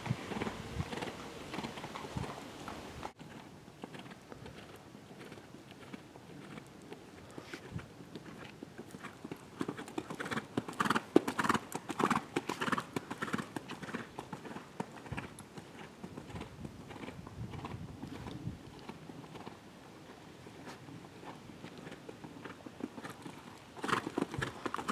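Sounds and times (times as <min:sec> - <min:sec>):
hoofbeats on sand: 0:00.0 - 0:24.9.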